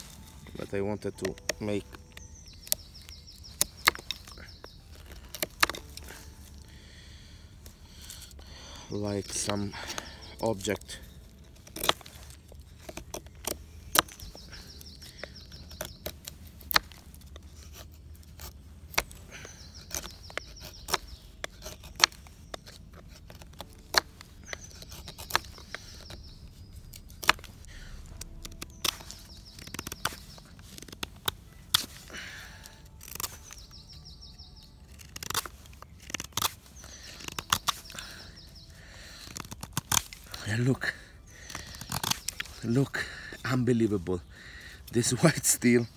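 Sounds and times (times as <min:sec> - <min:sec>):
knife carving wooden stick: 0:00.0 - 0:44.0.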